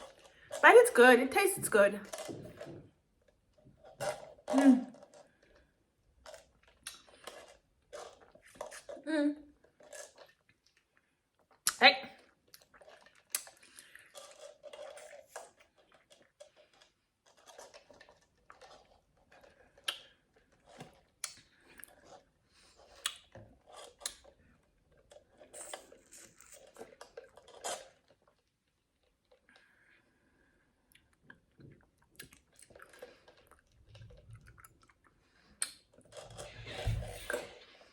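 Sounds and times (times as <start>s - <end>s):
person chewing and crunching food: 0.0s - 0.6s, 2.1s - 37.9s.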